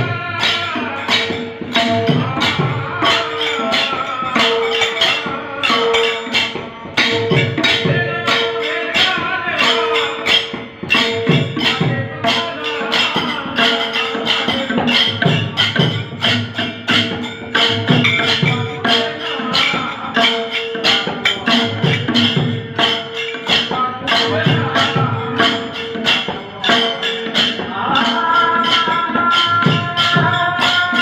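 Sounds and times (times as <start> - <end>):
drums and hand percussion: 0.0 - 31.0.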